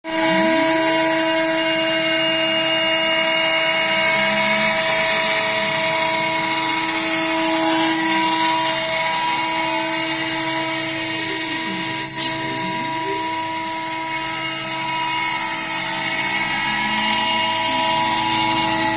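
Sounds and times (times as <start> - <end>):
gliding motor tones: 0.1 - 18.9
router spindle whine and hiss: 0.1 - 18.9.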